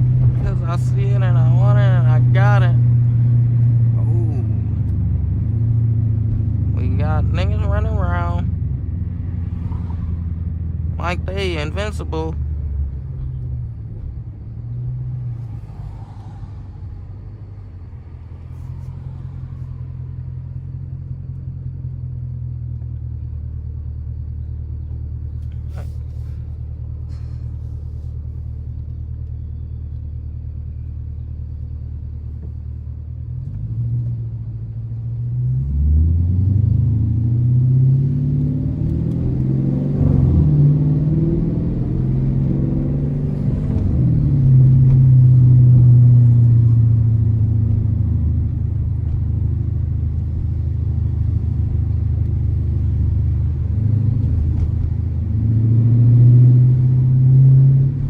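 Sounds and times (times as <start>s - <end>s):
car engine revving: 0.0s - 30.9s, 31.5s - 58.0s.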